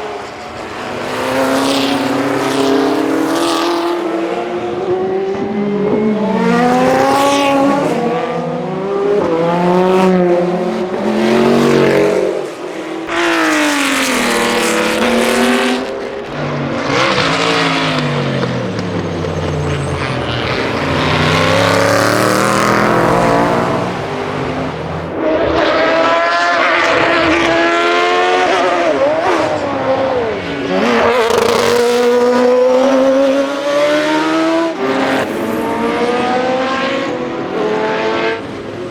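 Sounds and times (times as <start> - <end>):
racing car engines at full throttle: 0.0 - 38.9.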